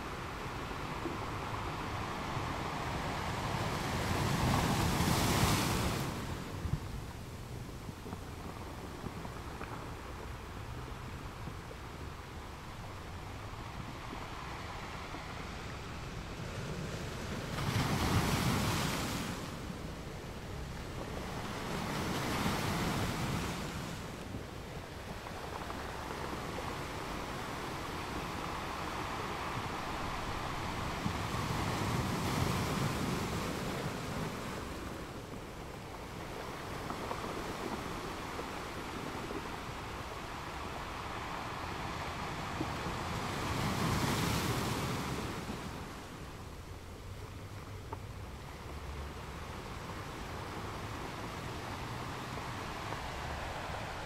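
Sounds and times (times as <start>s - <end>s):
waves washing: 0.0s - 54.0s
wind buffeting microphone: 0.0s - 54.0s.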